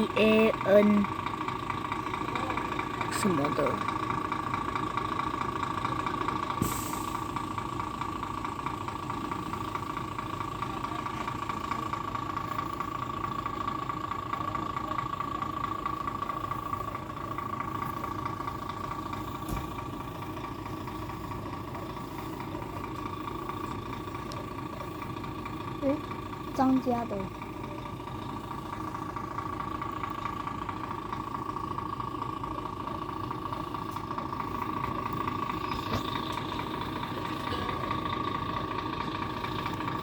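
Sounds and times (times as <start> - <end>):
constant high whine: 0.0 - 40.0
diesel truck engine idling: 0.0 - 40.0.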